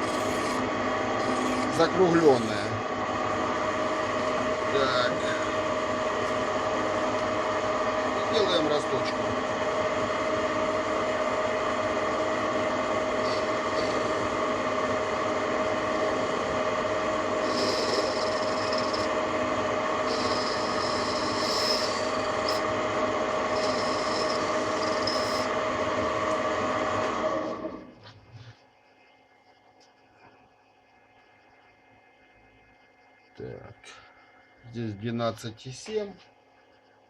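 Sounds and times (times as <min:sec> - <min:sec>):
lathe gear whine: 0:00.0 - 0:37.0.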